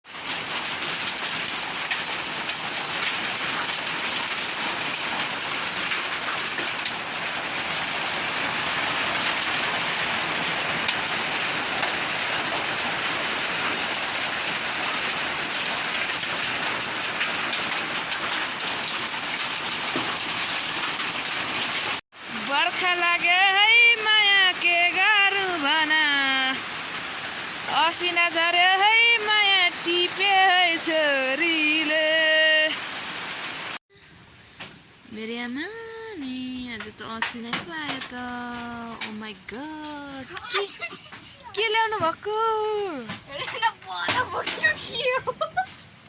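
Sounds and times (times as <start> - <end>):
heavy rain and hail: 0.0 - 46.0.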